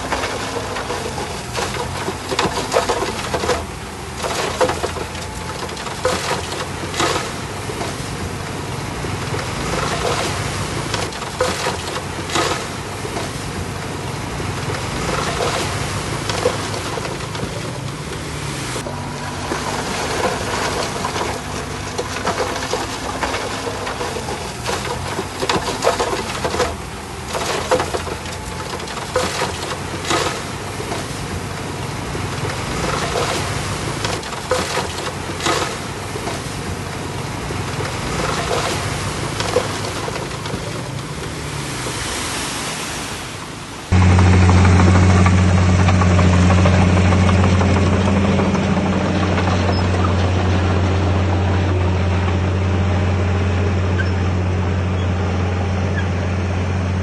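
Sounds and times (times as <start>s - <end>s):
bulldozer diesel engine running: 0.0s - 42.0s, 43.9s - 57.0s.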